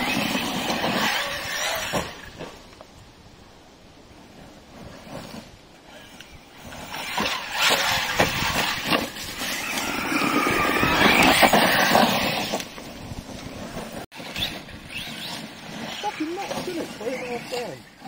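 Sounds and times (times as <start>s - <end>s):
tyres on gravel: 0.0s - 18.0s.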